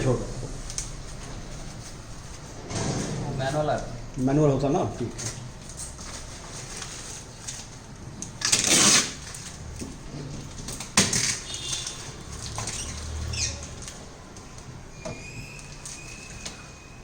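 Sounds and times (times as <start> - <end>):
rustling packaging and papers: 0.4 - 2.6, 3.3 - 14.8.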